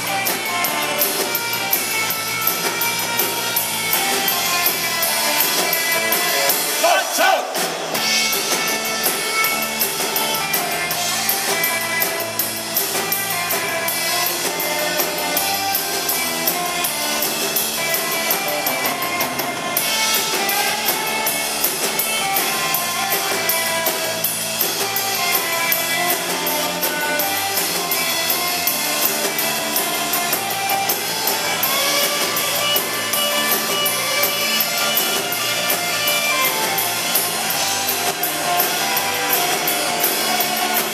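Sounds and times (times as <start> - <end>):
electric bass: 0.0 - 6.8, 7.8 - 40.9
drum kit: 0.0 - 40.9
electric guitar: 0.0 - 40.9.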